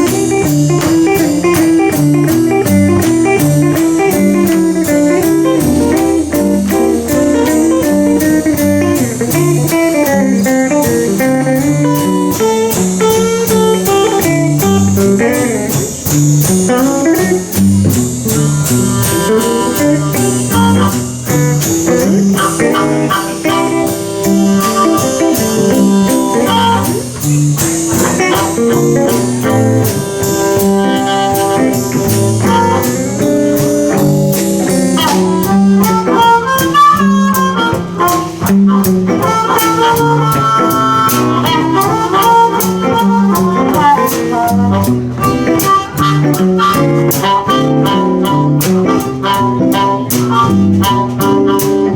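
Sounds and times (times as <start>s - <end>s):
drum kit: 0.0s - 51.9s
lead guitar: 0.0s - 51.9s
rhythm guitar: 0.0s - 51.9s.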